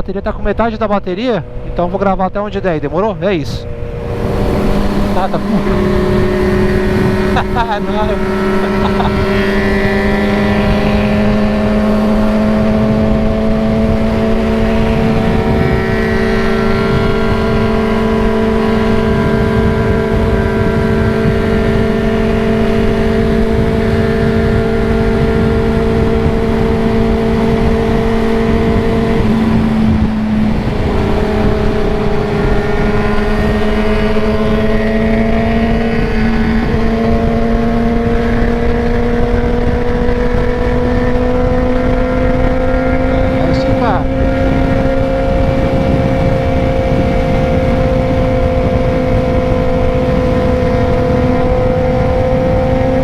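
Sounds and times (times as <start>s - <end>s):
motorcycle engine cruising: 0.0s - 53.0s
wind on microphone: 0.0s - 53.0s.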